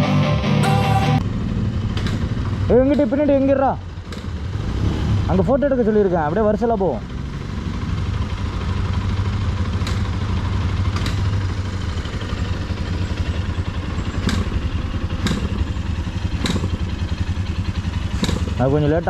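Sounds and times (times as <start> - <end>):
motorcycle engine idling low: 0.0 - 19.0.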